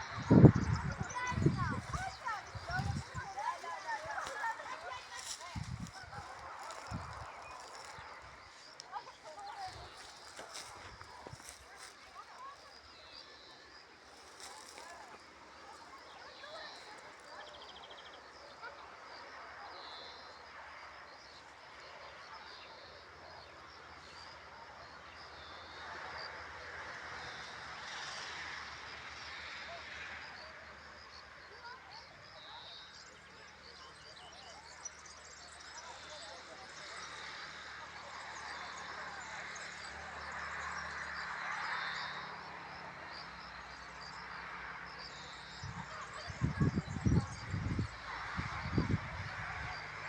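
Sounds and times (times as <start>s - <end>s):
faint high insect chirping: 0.1s - 48.0s.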